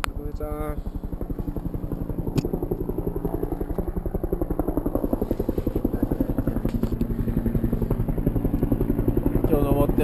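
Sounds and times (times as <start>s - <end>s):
engine running with rapid throb: 0.0s - 10.0s.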